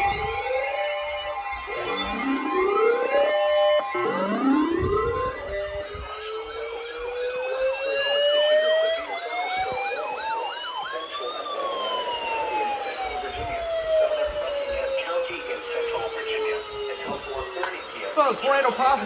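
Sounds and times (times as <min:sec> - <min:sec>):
siren warbling rapidly: 0:00.0 - 0:19.0
sirens wailing: 0:00.0 - 0:19.0
steady high tone: 0:00.0 - 0:19.0.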